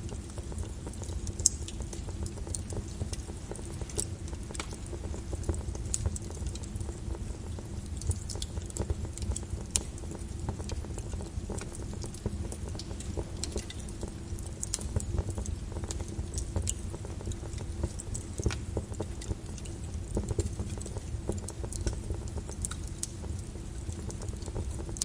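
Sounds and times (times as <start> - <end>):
lava crackling and popping: 0.0 - 25.0.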